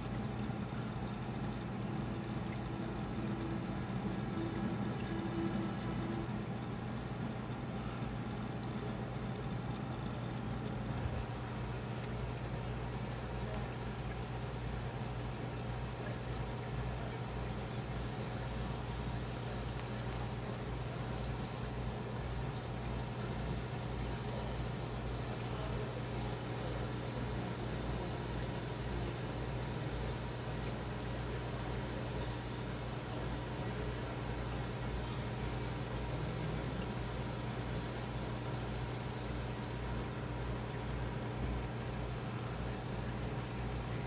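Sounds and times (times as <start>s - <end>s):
drip ticks: 0.0s - 44.0s
water pump hum: 0.0s - 44.0s.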